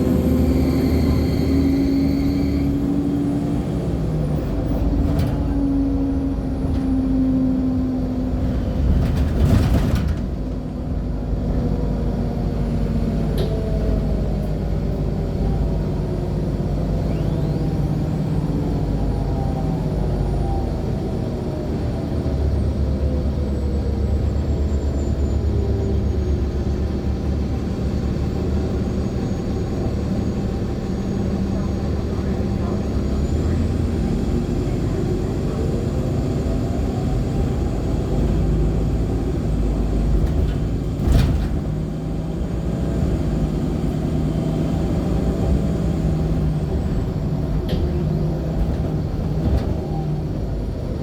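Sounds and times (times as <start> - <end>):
bus engine: 0.0 - 51.0.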